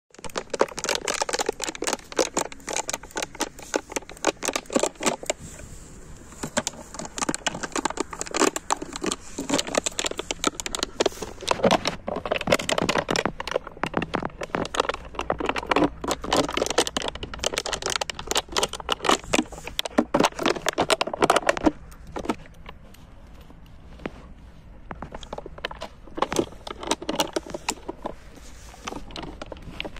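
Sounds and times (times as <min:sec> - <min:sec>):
dog chewing plastic bottle: 0:00.1 - 0:23.0, 0:24.9 - 0:29.9.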